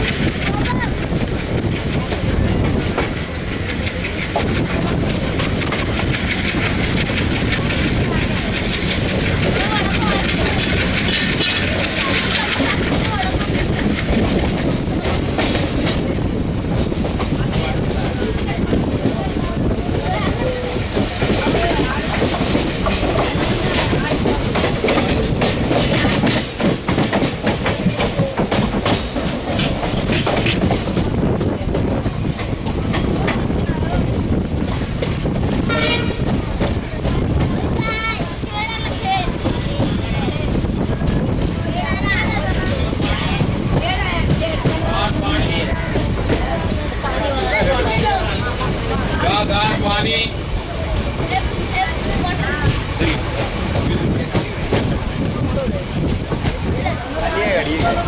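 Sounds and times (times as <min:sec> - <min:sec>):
train rumble: 0:00.0 - 0:58.0
train wheels clattering on rails: 0:00.0 - 0:58.0.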